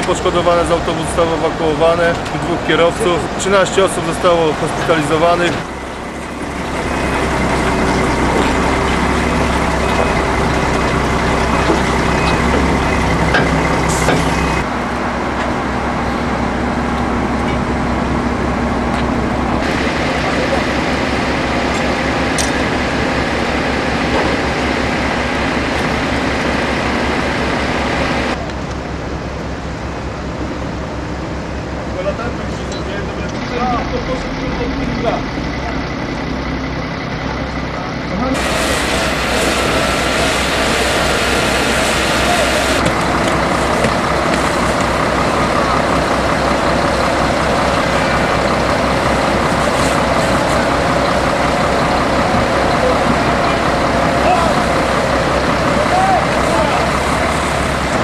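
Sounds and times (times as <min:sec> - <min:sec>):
heavy engine rumbling: 0:00.0 - 0:58.0.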